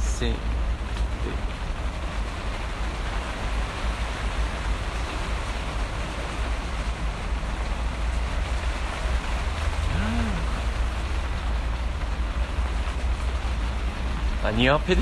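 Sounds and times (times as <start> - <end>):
heavy rain with deep rumble: 0.0 - 15.0.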